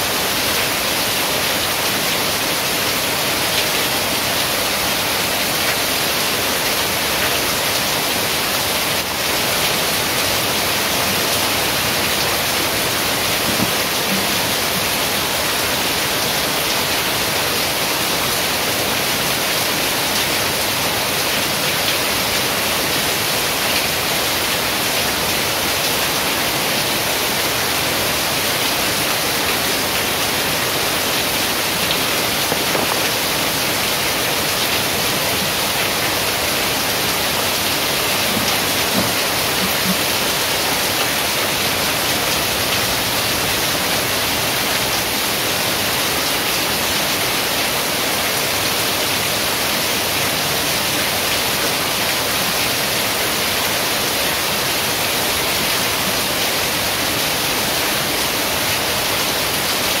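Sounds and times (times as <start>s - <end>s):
heavy rain on leaves and roof: 0.0s - 60.0s.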